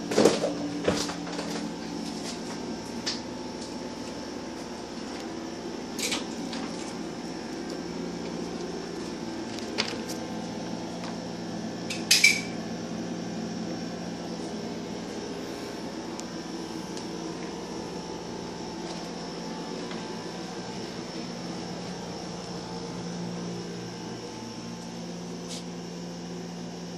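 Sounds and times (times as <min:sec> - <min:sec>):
appliance humming: 0:00.0 - 0:26.9.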